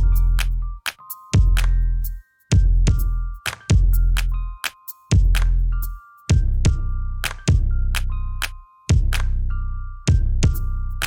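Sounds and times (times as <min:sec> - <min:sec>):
electronic music with bass beat: 0:00.0 - 0:11.0.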